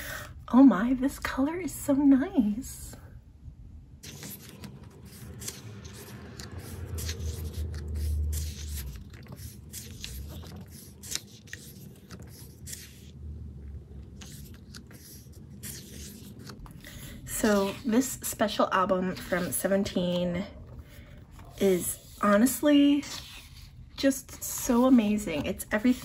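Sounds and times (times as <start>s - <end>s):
low rumble of handling: 3.9s - 26.0s
glossy pages turning and rustling: 4.0s - 26.0s.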